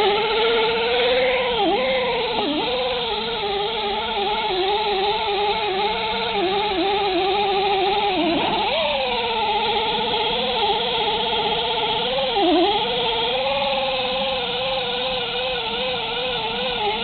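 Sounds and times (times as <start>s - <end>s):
electric buffer motor whine: 0.0s - 17.0s.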